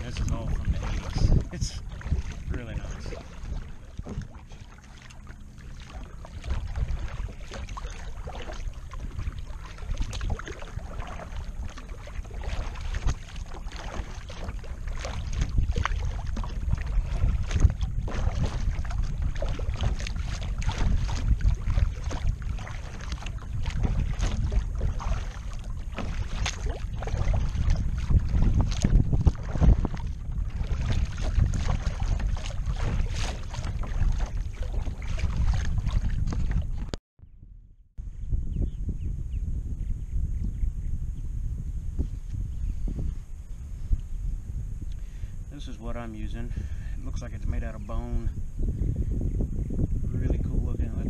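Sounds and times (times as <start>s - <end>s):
waves lapping against plastic hull: 0.0s - 37.0s, 44.8s - 48.8s
wind buffeting microphone: 0.0s - 51.0s.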